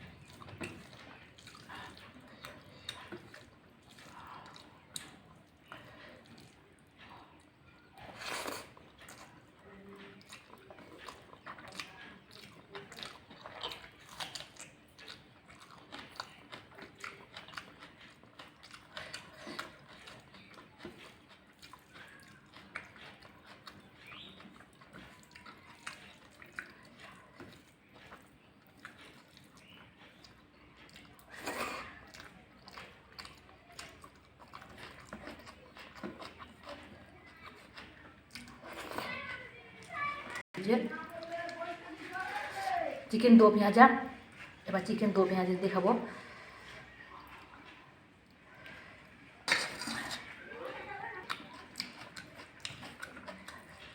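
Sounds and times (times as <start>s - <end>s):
person chewing: 0.0s - 42.7s, 46.1s - 53.9s.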